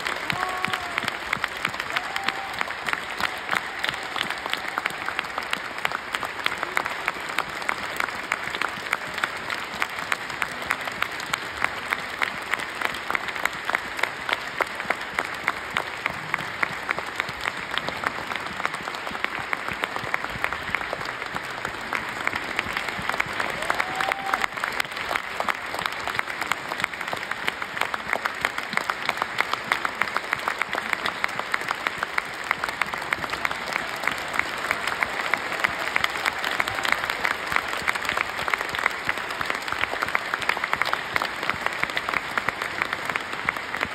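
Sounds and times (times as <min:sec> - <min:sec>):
audience applauding: 0:00.0 - 0:43.9.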